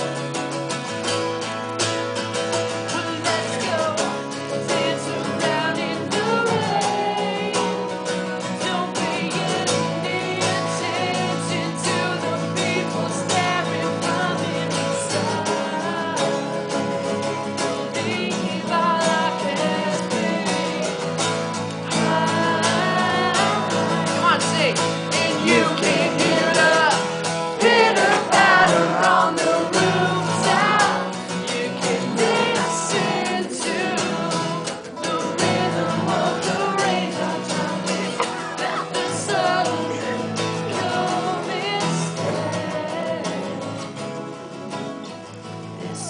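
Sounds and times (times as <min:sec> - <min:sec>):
acoustic guitar strummed: 0:00.0 - 0:46.0
man singing: 0:02.6 - 0:44.6.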